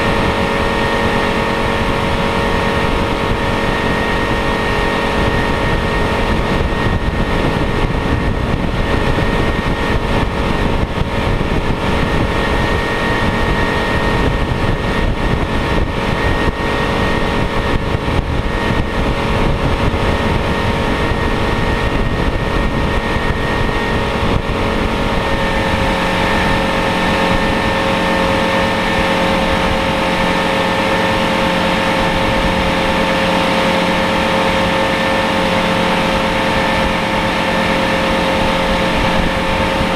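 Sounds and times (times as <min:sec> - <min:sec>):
motorboat engine running: 0:00.0 - 0:39.9
water rushing past: 0:00.0 - 0:39.9
wind rushing: 0:00.0 - 0:39.9.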